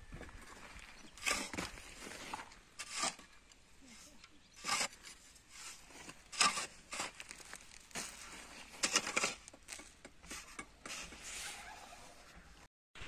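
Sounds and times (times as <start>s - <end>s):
shovel scraping stony soil: 0.5s - 12.4s.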